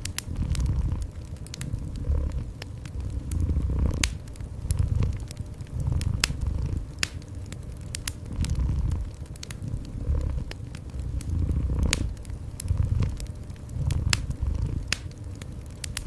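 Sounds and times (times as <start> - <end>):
cat purring: 0.0 - 16.0
wood fire crackling: 0.0 - 16.0.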